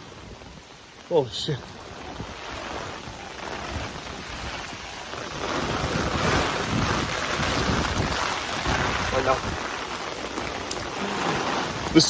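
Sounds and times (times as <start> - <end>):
rain: 0.0 - 12.0
wind buffeting microphone: 1.6 - 12.0.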